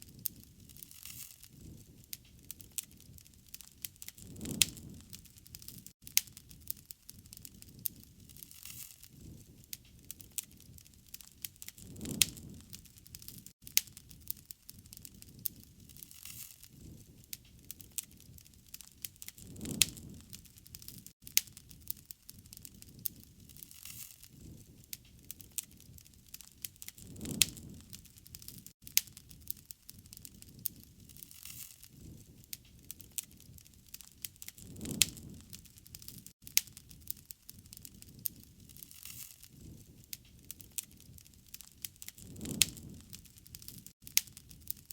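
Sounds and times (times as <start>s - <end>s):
soft low rush of flame: 0.0s - 44.9s
wood fire crackling: 0.0s - 44.9s.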